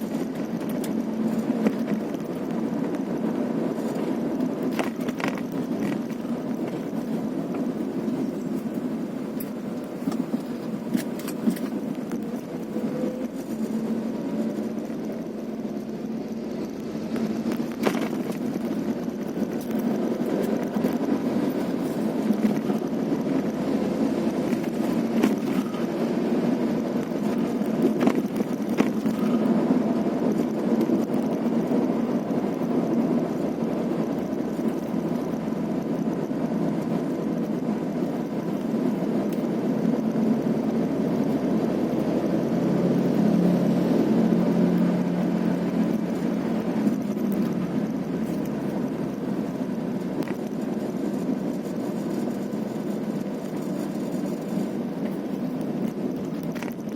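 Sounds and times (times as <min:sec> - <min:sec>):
road noise: 0:00.0 - 0:56.9
vehicle engine running: 0:00.0 - 0:56.9.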